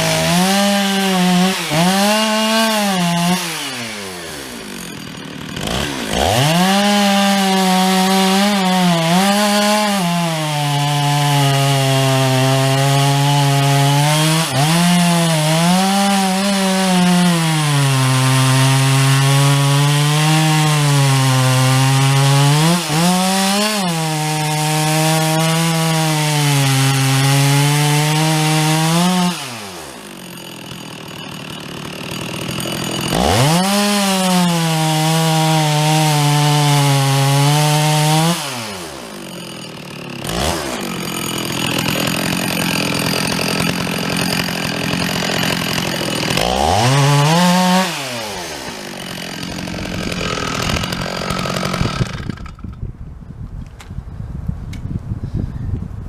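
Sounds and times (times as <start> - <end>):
chainsaw cutting a tree: 0.0 - 52.8.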